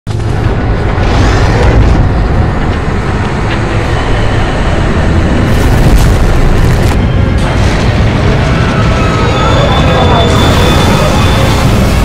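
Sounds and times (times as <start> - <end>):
booms and crashing: 0.1 - 12.0
heavy low rumble: 0.1 - 12.0.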